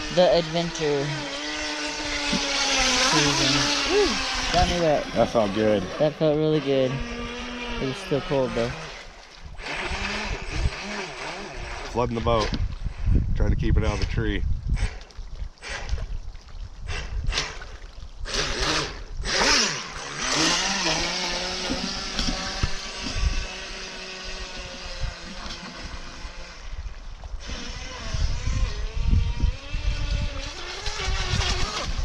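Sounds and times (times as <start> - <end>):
model boat motor whine: 0.0 - 13.3, 18.3 - 32.0
wind on microphone: 0.0 - 32.0.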